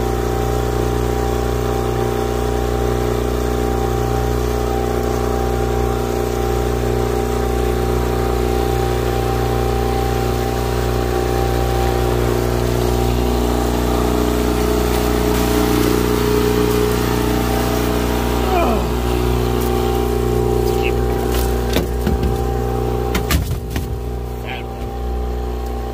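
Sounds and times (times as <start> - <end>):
outboard motor droning: 0.0 - 25.9.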